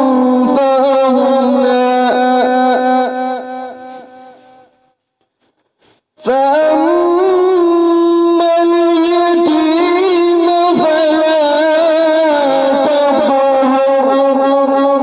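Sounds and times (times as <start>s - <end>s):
man chanting melodically: 0.0s - 4.7s, 6.2s - 15.0s.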